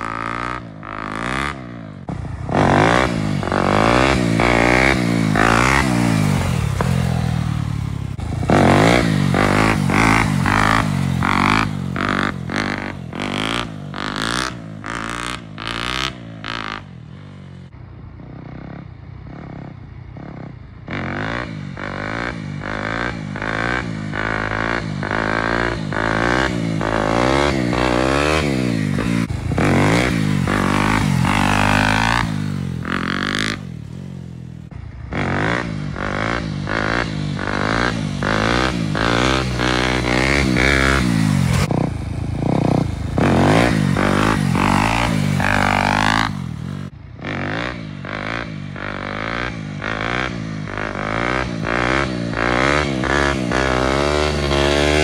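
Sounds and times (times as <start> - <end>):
dirt bike engine revving: 0.0 - 17.6, 18.4 - 55.0.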